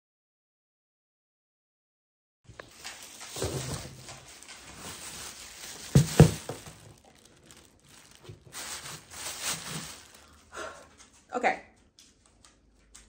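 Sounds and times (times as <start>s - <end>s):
rustling and crinkling: 2.5s - 13.0s.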